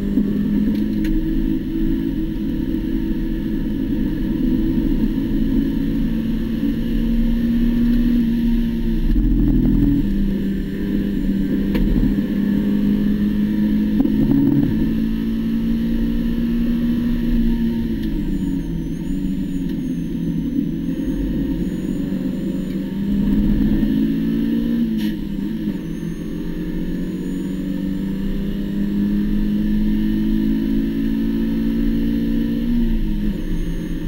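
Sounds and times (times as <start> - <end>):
car engine at high revs: 0.0 - 34.0.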